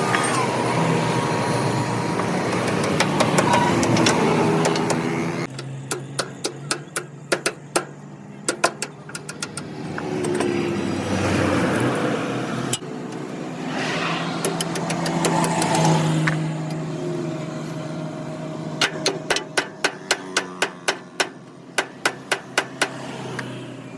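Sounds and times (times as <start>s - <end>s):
motor vehicle engine running: 0.0s - 23.9s.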